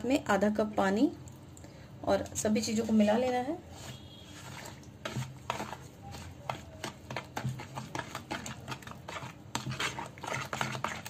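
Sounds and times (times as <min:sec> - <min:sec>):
spoon stirring thick batter: 0:02.1 - 0:11.0.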